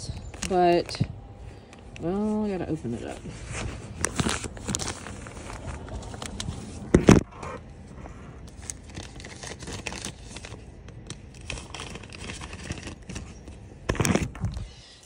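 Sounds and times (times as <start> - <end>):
plastic bag crinkling and rustling: 0.0 - 14.6.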